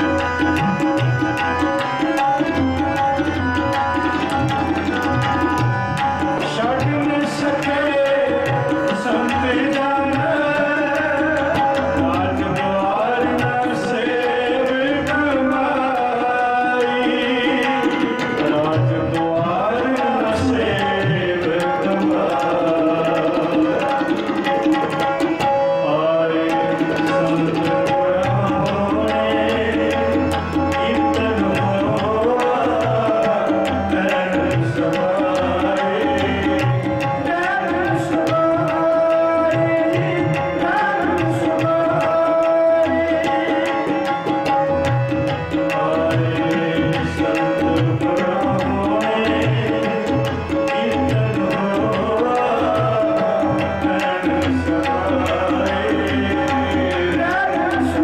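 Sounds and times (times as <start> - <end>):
harmonium chords: 0.0 - 58.0
man singing: 0.0 - 58.0
tabla playing a rhythm: 0.0 - 58.0.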